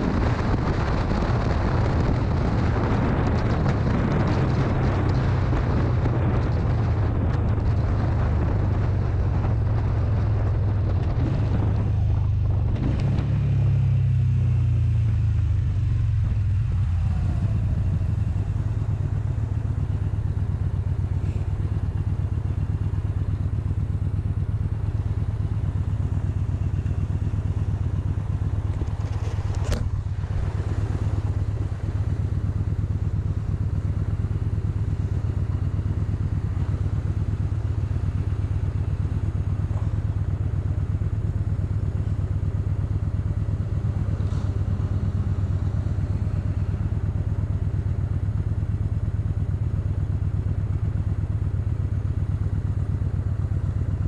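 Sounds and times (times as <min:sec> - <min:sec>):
noisy rush: 0:00.0 - 0:48.0
motorcycle engine running: 0:00.0 - 0:54.0.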